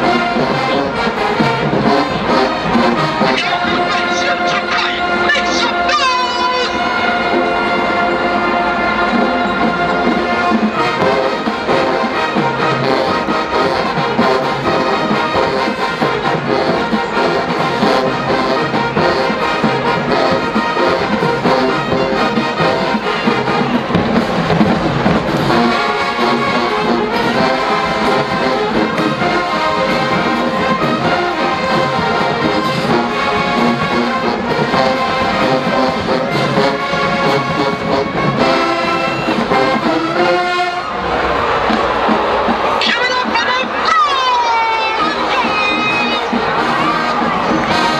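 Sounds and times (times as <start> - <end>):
brass band playing: 0.0 - 47.9
trombones and trumpets: 0.0 - 47.9.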